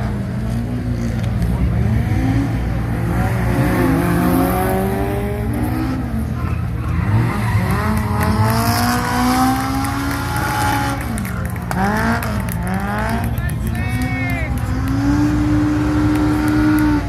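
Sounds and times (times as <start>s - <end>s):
car engine revving hard: 0.0s - 13.4s, 14.0s - 17.0s.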